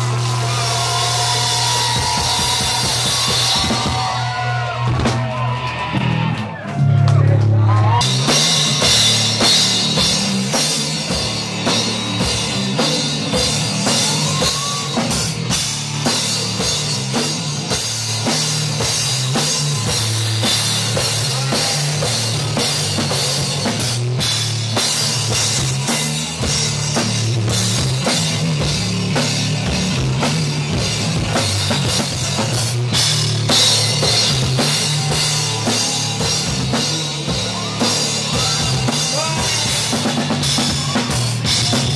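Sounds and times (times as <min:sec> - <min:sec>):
drum kit with cymbals: 0:00.0 - 0:41.9
rock band playing live: 0:00.0 - 0:41.9.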